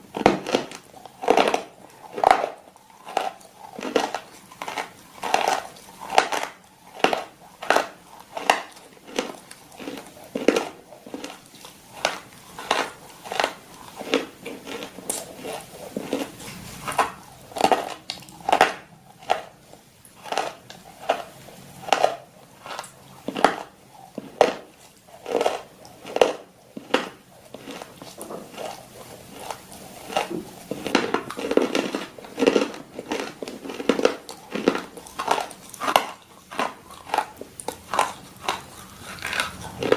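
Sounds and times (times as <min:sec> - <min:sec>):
dog chewing crunchy food: 0:00.0 - 0:39.9.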